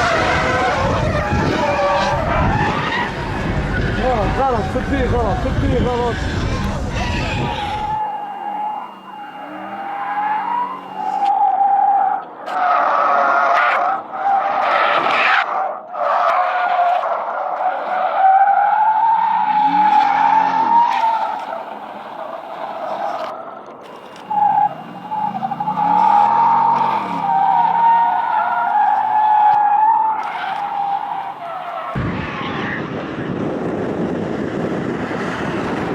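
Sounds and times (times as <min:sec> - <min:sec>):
car engine revving: 0:00.0 - 0:11.4, 0:12.2 - 0:35.9
tyres squealing: 0:00.0 - 0:32.0.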